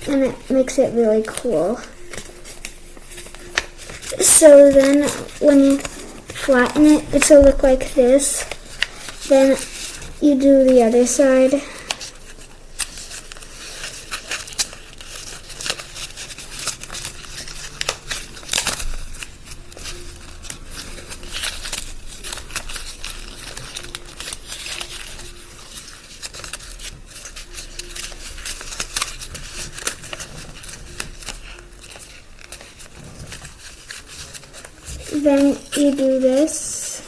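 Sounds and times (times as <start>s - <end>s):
paper crackling as creased: 0.0s - 37.0s
paper rustling and crinkling: 0.0s - 37.0s.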